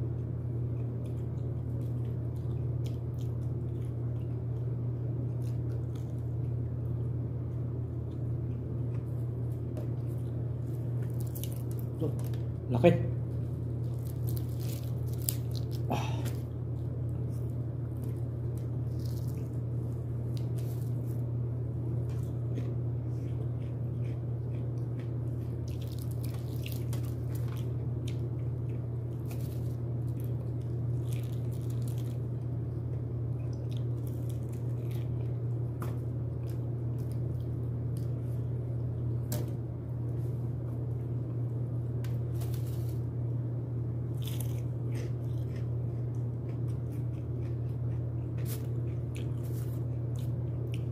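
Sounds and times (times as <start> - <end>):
biting and wet chewing: 0.0 - 12.6, 13.2 - 43.2, 44.0 - 50.9
steady low hum: 0.0 - 50.9.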